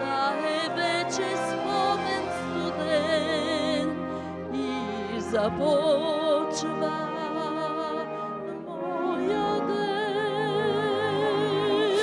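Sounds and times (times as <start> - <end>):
instrumental accompaniment: 0.0 - 12.0
woman singing operatically: 0.0 - 12.0.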